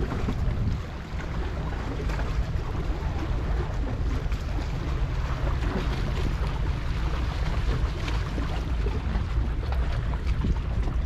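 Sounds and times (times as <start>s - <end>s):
ocean waves: 0.0s - 11.0s
wind buffeting microphone: 0.0s - 11.0s.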